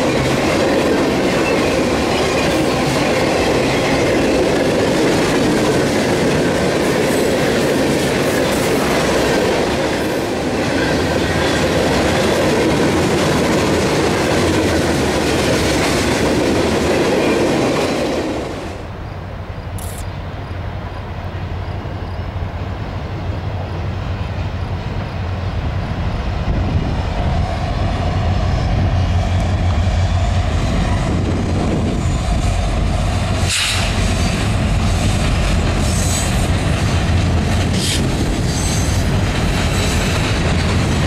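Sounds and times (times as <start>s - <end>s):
steel train wheels on rails: 0.0s - 19.0s, 19.6s - 41.0s.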